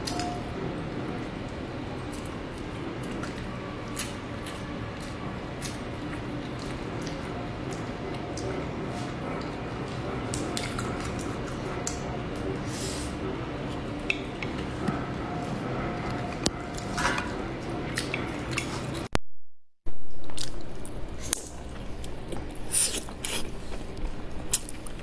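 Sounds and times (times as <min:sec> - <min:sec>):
chewing sticky food: 0:00.0 - 0:19.1, 0:20.3 - 0:25.0.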